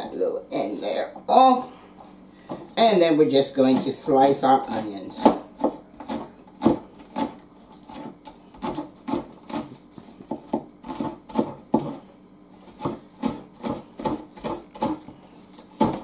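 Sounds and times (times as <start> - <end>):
knife slicing onions on a board: 2.6 - 16.0.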